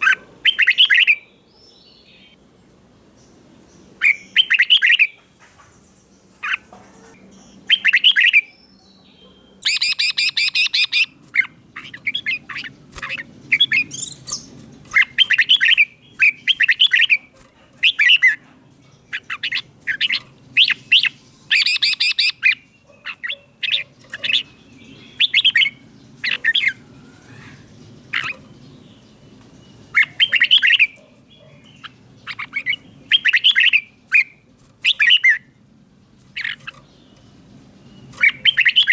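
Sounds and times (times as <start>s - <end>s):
bird singing chirpy notes: 0.0s - 5.2s, 5.8s - 38.9s.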